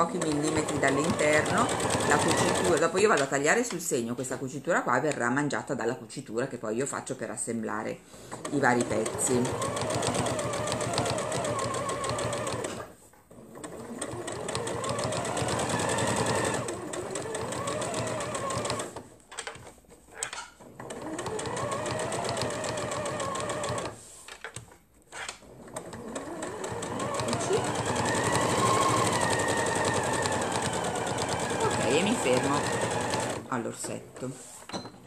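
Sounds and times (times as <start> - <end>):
sewing machine stitching: 0.0 - 3.8, 8.2 - 34.6.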